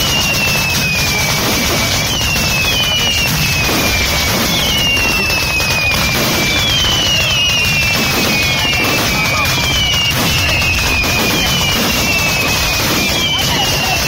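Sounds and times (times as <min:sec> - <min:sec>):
fireworks crackling: 0:00.0 - 0:14.0
whistling fireworks: 0:00.0 - 0:14.0.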